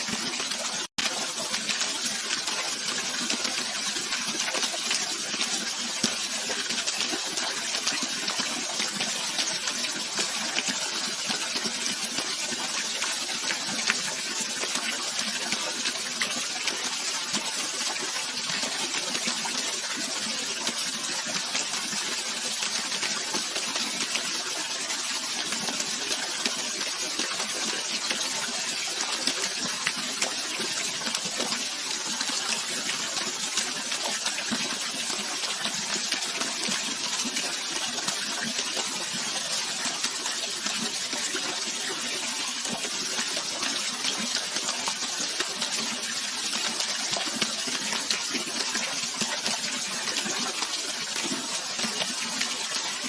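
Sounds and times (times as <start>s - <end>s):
water rushing and splashing: 0.0s - 53.0s.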